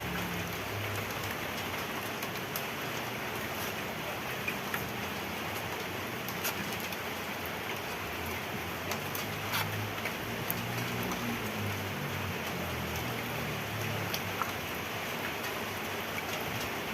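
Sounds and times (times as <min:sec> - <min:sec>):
water splashes and drips: 0:00.0 - 0:16.9.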